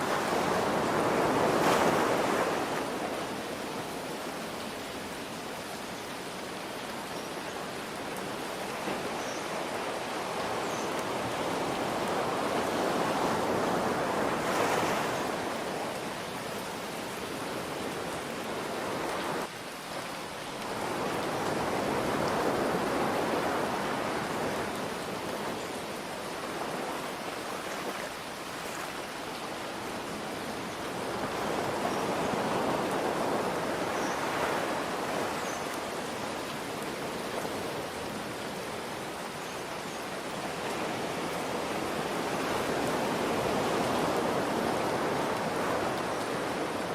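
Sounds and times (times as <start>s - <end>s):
ocean waves washing in: 0.0s - 19.6s, 20.3s - 46.9s.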